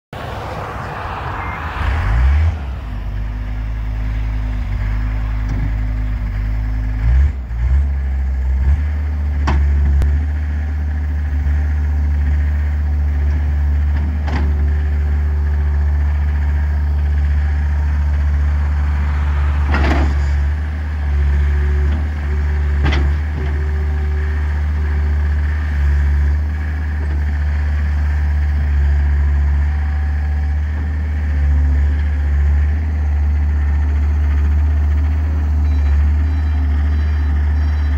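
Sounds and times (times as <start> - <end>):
diesel engine running: 0.1 - 37.9.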